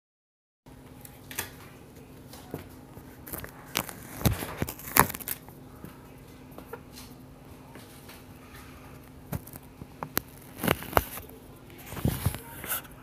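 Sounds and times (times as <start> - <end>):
steady low hum: 0.7 - 13.0.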